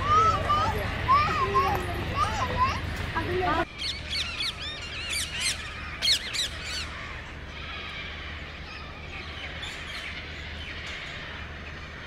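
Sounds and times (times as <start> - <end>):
birds chirping and calling: 0.0 - 12.0
steady low hum: 0.0 - 12.0.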